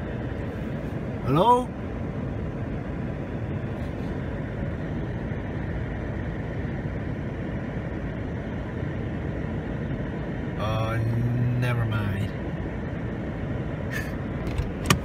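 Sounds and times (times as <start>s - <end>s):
vehicle running rumble: 0.0s - 15.0s.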